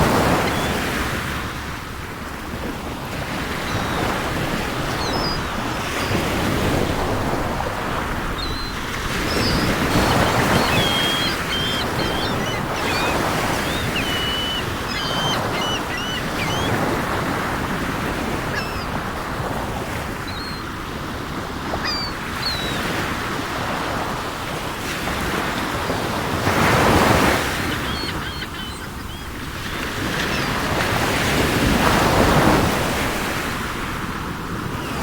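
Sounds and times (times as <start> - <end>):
gulls calling: 0.0 - 1.4, 3.1 - 23.7, 26.0 - 33.6
sea waves washing in: 0.0 - 35.0.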